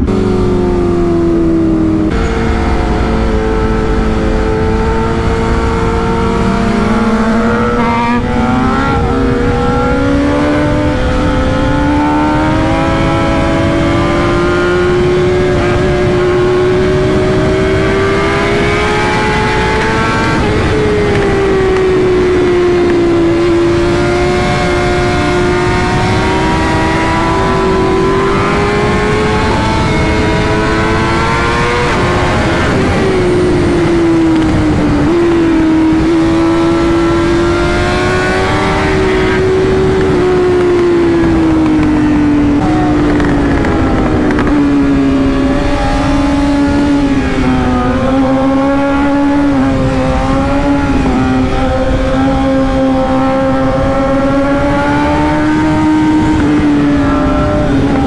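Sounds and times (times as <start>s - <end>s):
motorcycle engine at high revs: 0.0s - 58.0s
wind and road noise: 0.0s - 58.0s.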